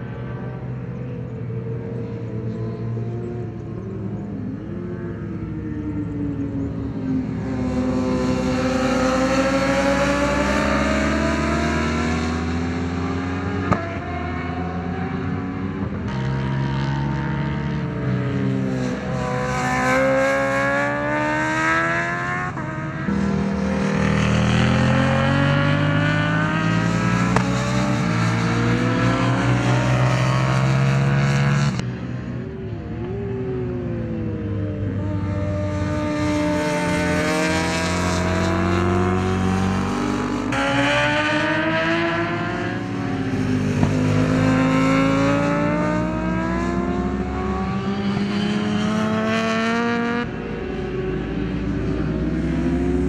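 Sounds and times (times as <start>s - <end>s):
racing motorcycles revving: 0.0s - 53.0s.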